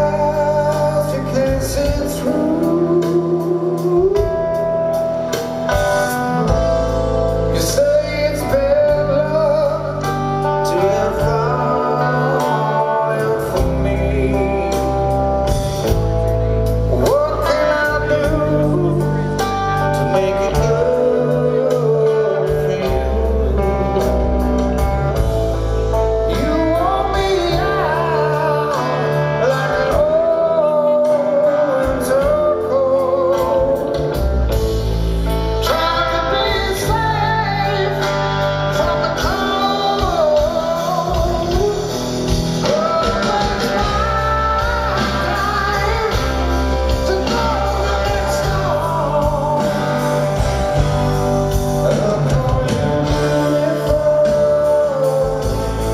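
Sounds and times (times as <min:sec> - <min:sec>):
man singing: 0:00.0 - 0:55.9
rock band playing live: 0:00.0 - 0:55.9.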